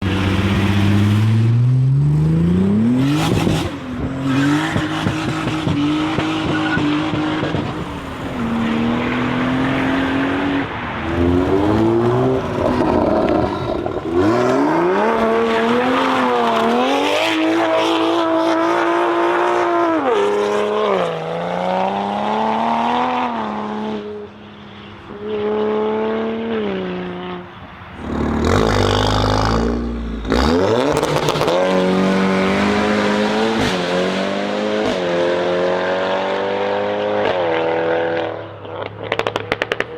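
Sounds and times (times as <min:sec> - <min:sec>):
car engine revving: 0:00.0 - 0:24.1, 0:28.0 - 0:39.9.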